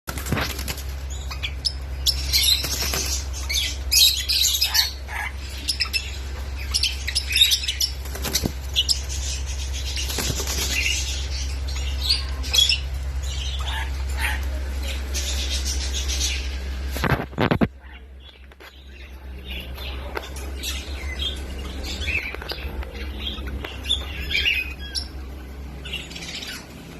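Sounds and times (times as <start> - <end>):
steady low hum: 0.1 - 26.9
parrot chirping and squawking: 0.4 - 10.1, 10.7 - 16.6, 20.6 - 26.9.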